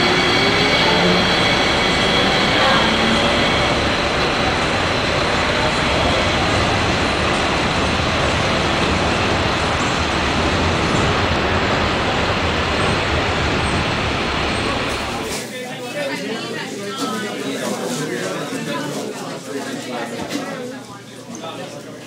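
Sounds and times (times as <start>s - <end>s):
light rail train arriving: 0.0s - 19.1s.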